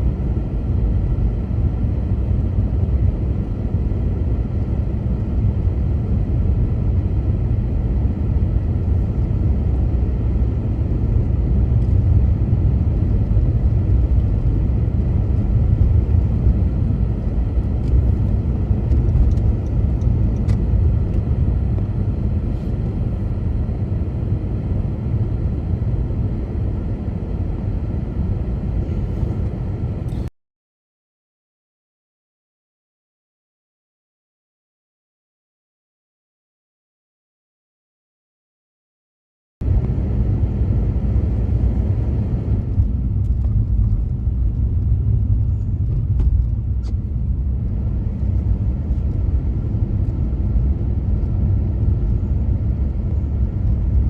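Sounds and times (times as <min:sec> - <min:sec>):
car road and engine rumble: 0:00.0 - 0:30.3, 0:39.6 - 0:54.0.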